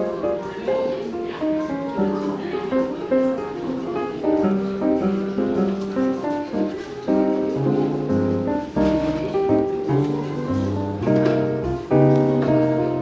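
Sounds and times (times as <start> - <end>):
jazz piano music: 0.0 - 13.0.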